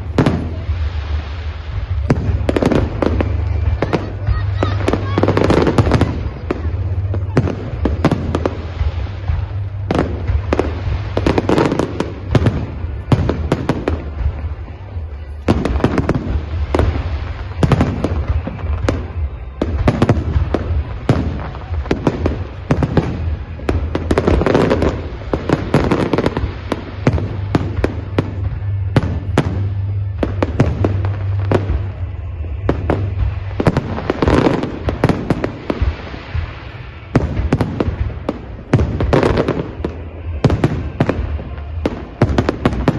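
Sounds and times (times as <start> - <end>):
fireworks bangs: 0.0 - 42.9
fireworks crackling: 0.0 - 42.9
low rumble: 0.0 - 42.9.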